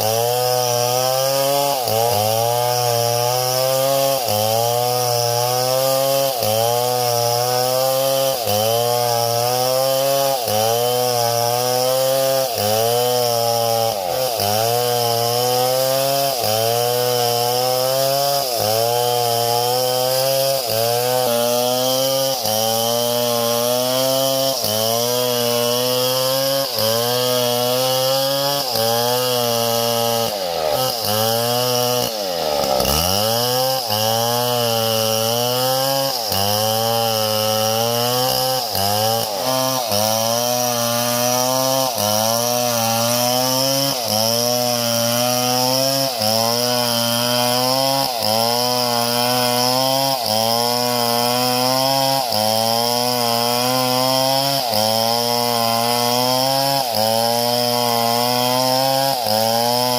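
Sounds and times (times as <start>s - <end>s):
small chainsaw cutting: 0.0s - 59.9s.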